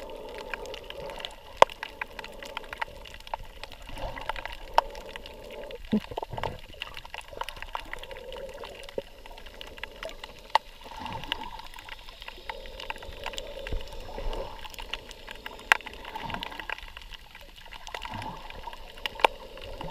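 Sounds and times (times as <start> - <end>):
muffled underwater water noise: 0.0 - 19.9
sharp clicks and crackles: 0.0 - 19.9.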